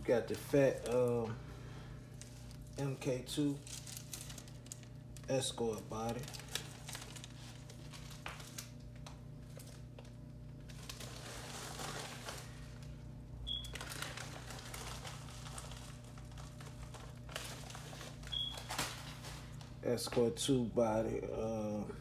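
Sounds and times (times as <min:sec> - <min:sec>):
plastic packaging crinkling: 0:00.0 - 0:01.4, 0:02.1 - 0:19.8
steady low hum: 0:00.0 - 0:22.0.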